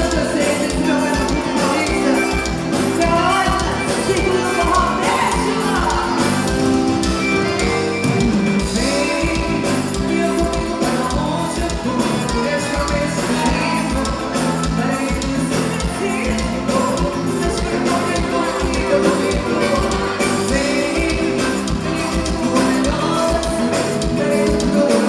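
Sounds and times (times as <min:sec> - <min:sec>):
steady low drum beat: 0:00.0 - 0:24.9
held chords: 0:00.0 - 0:25.0.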